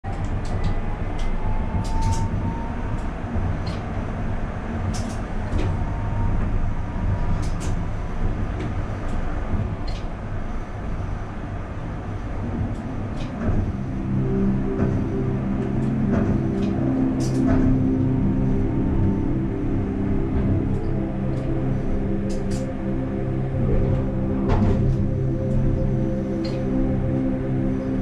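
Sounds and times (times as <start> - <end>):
tram rumbling: 0.0 - 28.0.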